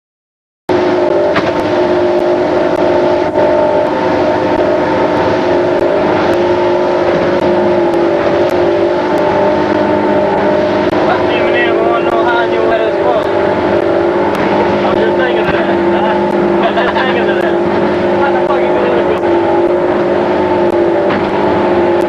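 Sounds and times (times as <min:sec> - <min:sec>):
motorboat engine droning: 0:00.7 - 0:22.0
wind and water noise: 0:00.7 - 0:22.0.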